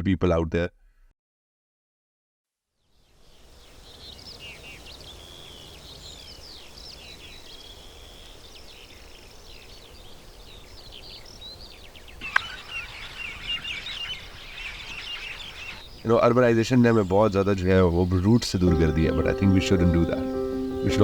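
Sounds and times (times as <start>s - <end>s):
small birds chirping: 2.8s - 21.0s.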